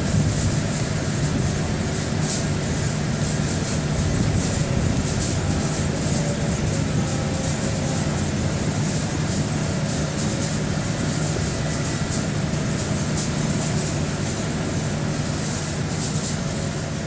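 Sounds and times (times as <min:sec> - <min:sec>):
diesel machinery droning: 0:00.0 - 0:17.0.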